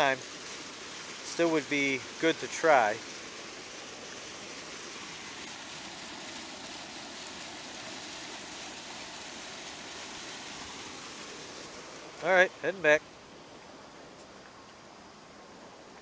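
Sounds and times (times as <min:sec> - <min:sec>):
water pouring over spillway: 0:00.0 - 0:13.0.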